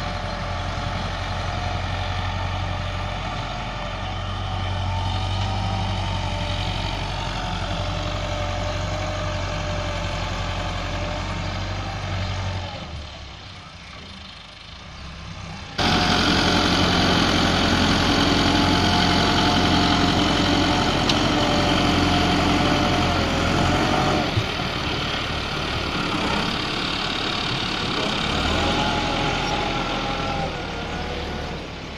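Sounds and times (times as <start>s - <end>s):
diesel tractor engine under load: 0.0s - 31.9s.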